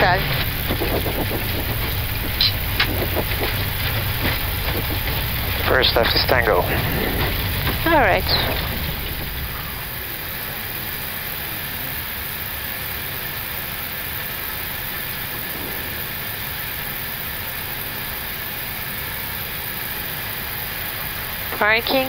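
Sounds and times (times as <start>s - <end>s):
aircraft engines idling: 0.0s - 22.0s.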